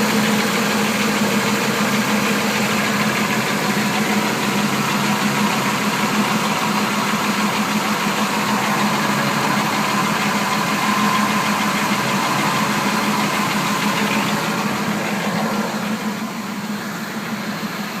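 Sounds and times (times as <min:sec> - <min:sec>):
engine idling: 0:00.0 - 0:18.0
rapid engine ticking: 0:00.0 - 0:18.0.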